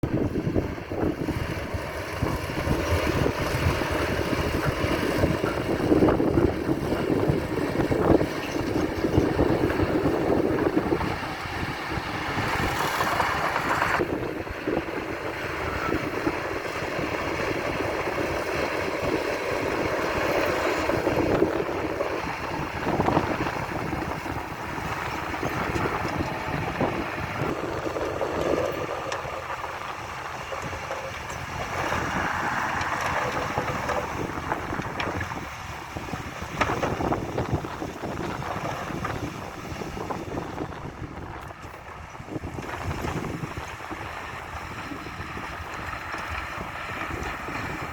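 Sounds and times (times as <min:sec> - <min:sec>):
diesel engines rumbling: 0:00.0 - 0:47.9
wind buffeting microphone: 0:00.0 - 0:47.9.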